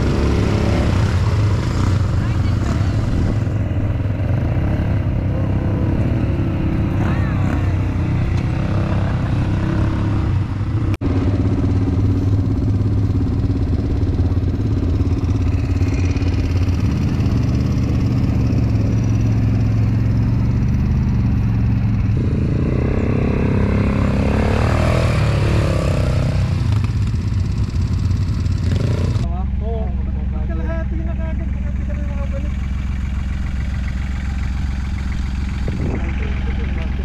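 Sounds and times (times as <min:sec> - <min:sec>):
atv engines droning: 0:00.0 - 0:37.0.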